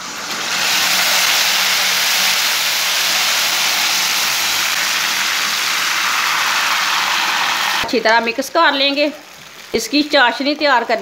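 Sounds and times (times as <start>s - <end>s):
hot oil sizzling with water: 0.0s - 11.0s.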